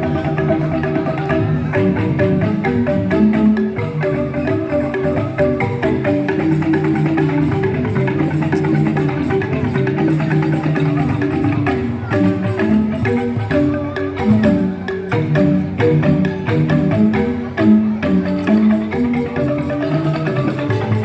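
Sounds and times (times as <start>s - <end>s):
bamboo xylophones playing: 0.0s - 21.0s
percussion: 0.0s - 21.0s.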